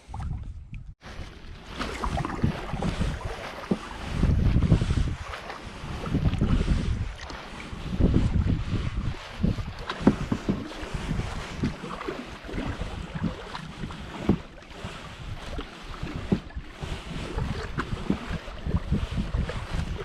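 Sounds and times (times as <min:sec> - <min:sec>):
water splashing against a canoe: 0:00.0 - 0:20.0
wind buffeting the microphone: 0:00.0 - 0:20.0.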